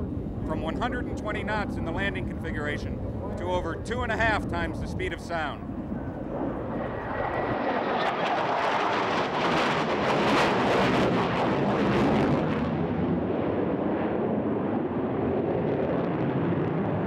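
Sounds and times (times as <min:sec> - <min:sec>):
jet engines flypast: 0:00.0 - 0:17.0.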